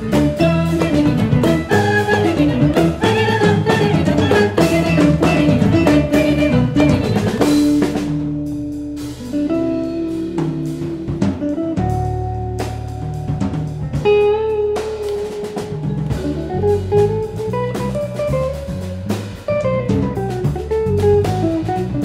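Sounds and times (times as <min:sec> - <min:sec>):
drum kit: 0:00.0 - 0:22.0
electric guitars: 0:00.0 - 0:22.0
jazz band playing: 0:00.0 - 0:22.0.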